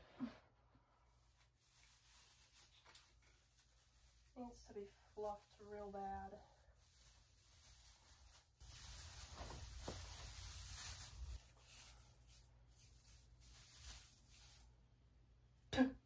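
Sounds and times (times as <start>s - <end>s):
rustling of artificial tree branches: 1.0s - 15.1s.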